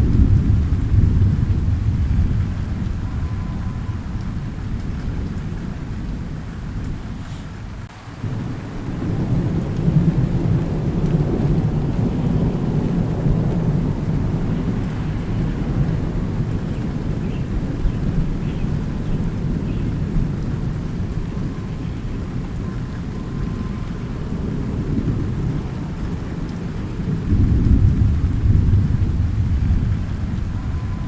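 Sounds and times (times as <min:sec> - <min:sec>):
rolling thunder: 0:00.0 - 0:31.0
steady rain: 0:00.0 - 0:31.0.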